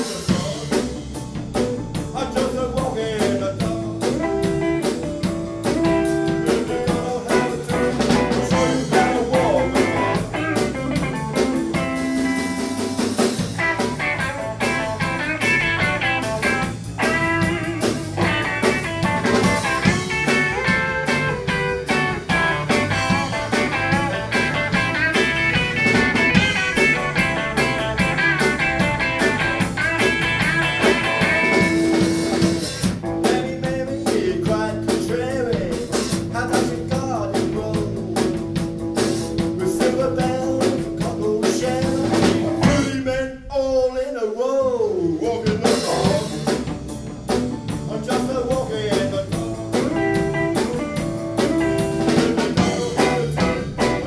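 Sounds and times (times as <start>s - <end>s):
electric guitar: 0.0s - 43.5s, 45.2s - 54.0s
drum kit: 0.0s - 43.8s, 45.2s - 54.0s
electric bass guitar: 0.0s - 54.0s.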